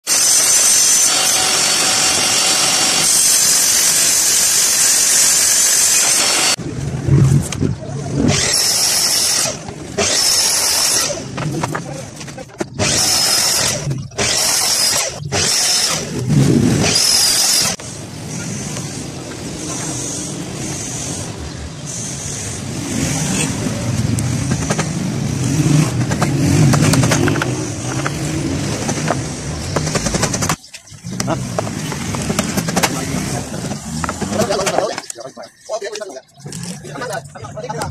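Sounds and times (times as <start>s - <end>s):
miter saw cutting board: 0.0s - 6.6s, 8.2s - 34.9s
steady background noise: 0.1s - 37.9s.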